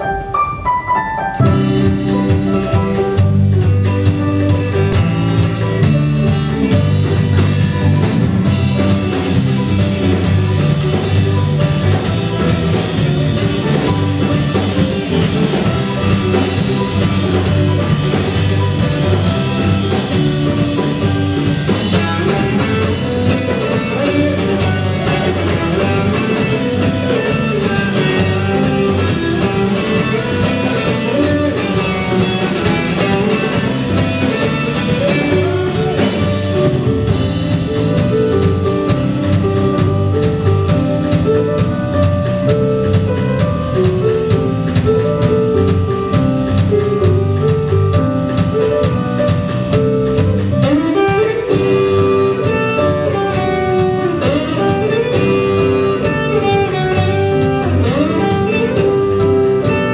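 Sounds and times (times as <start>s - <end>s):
drum kit: 0.0s - 59.9s
electric guitar: 0.0s - 59.9s
keyboard: 0.0s - 59.9s
electric bass: 1.4s - 59.9s.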